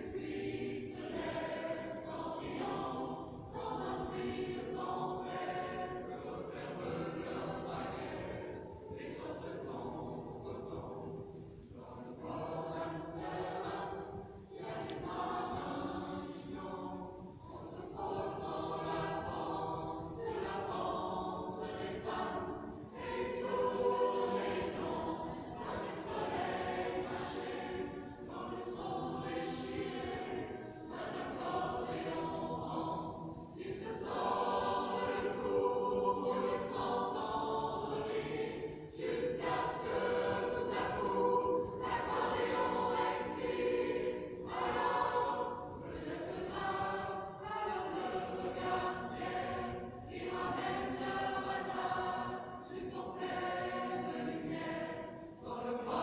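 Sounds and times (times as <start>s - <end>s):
choir singing in a cave: 0.0s - 56.0s.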